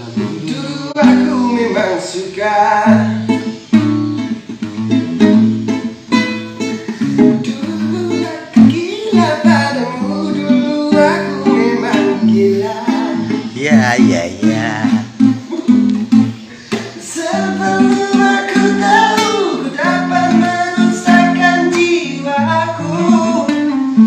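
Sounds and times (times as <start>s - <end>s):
man singing: 0.0s - 4.4s, 7.2s - 24.0s
acoustic guitar strumming: 0.0s - 24.0s.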